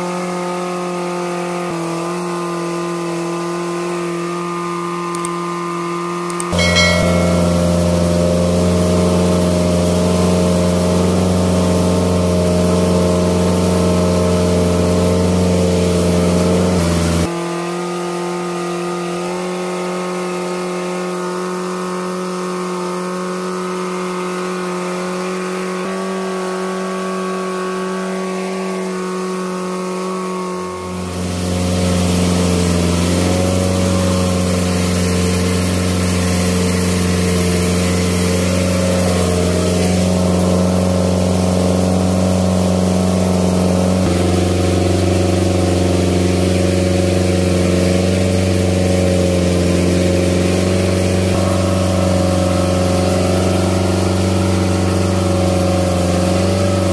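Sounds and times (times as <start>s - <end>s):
boat engine running: 2.0s - 17.3s, 25.1s - 56.9s.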